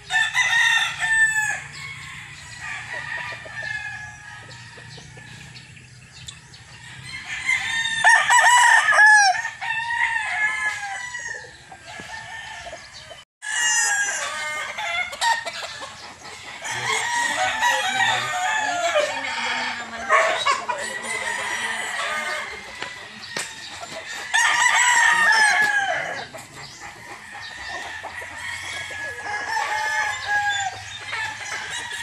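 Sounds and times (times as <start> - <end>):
roosters clucking: 0.0 - 32.0
roosters crowing: 0.0 - 32.0.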